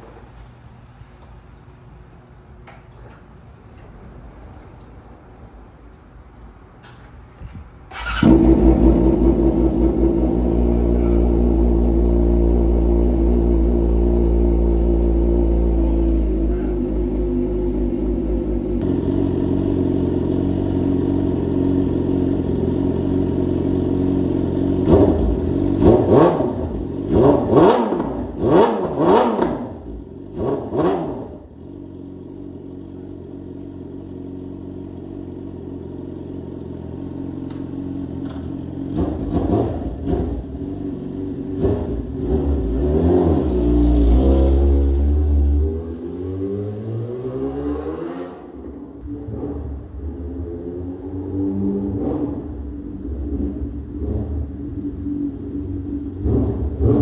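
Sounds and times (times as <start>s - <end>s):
motorcycle engine idling and revving: 6.8s - 57.0s.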